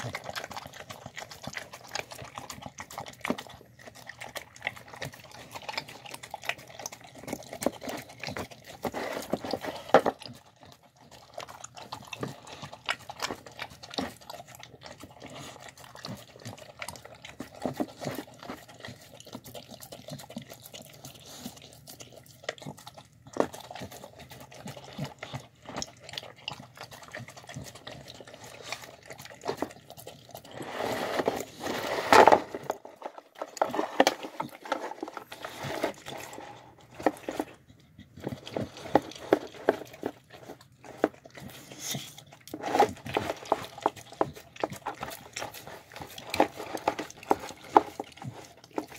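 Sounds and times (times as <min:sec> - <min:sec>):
tongue and teeth clicking on bowl: 0:00.0 - 0:30.7, 0:32.6 - 0:48.9
dog licking and slurping: 0:00.0 - 0:48.9.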